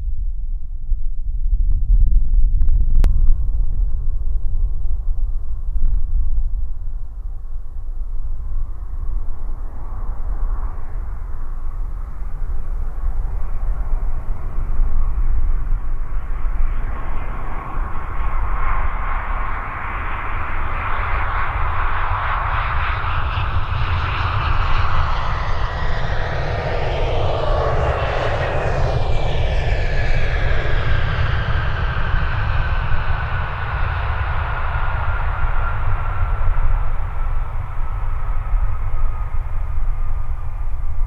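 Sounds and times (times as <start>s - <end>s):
low rumble: 0.0s - 41.0s
jet engine noise: 2.5s - 41.0s
engine whine: 2.7s - 41.0s.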